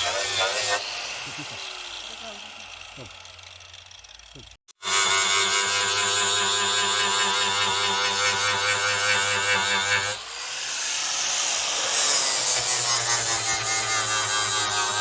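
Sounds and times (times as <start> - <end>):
small power tool motor running: 0.0 - 15.0.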